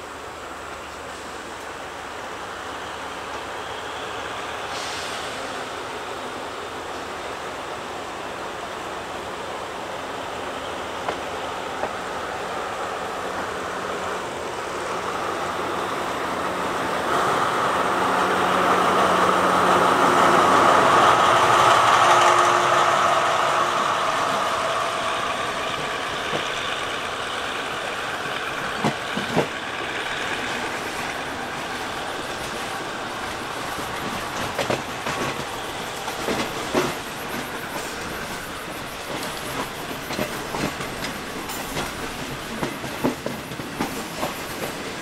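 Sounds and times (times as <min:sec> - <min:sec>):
train rumble inside coach: 0:00.0 - 0:45.0.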